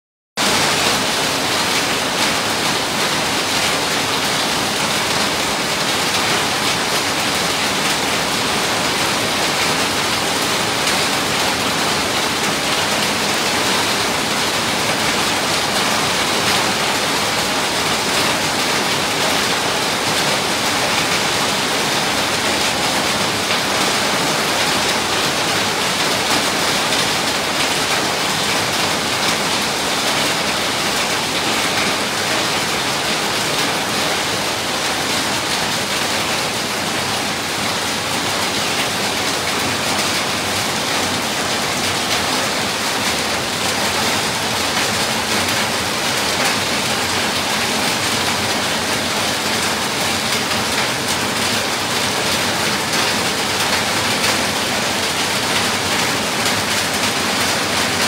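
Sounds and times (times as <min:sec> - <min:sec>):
heavy rain on wet paving: 0:00.4 - 0:58.0.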